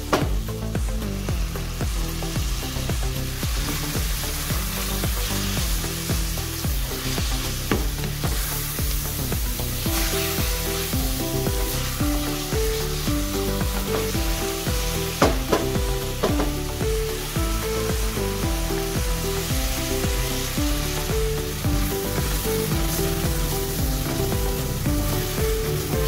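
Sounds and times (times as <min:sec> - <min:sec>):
background music with steady beat: 0:00.0 - 0:26.0
meat and onions sizzling in oil: 0:00.0 - 0:26.0
wooden spoon stirring: 0:03.8 - 0:26.0.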